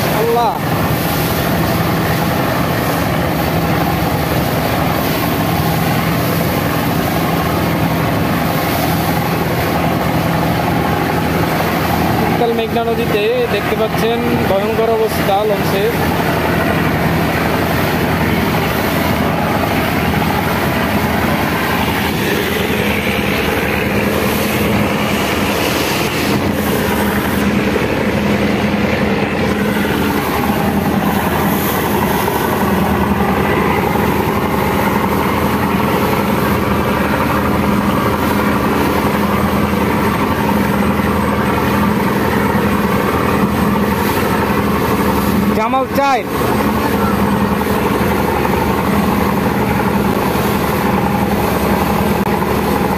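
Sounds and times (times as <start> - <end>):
boat engine drone: 0.0 - 52.9
wake and waves rushing: 0.0 - 52.9.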